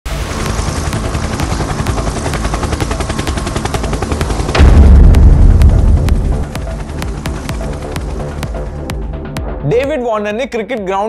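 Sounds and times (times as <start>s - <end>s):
helicopter rotor chopping: 0.1s - 9.4s.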